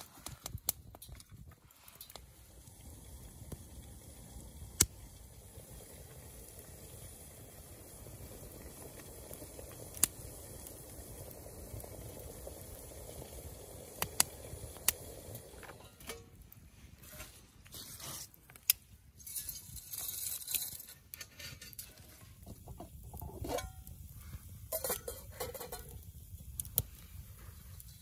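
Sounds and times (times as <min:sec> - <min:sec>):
fire popping: 0:00.0 - 0:28.0
wood fire rumbling and hissing: 0:00.0 - 0:28.0.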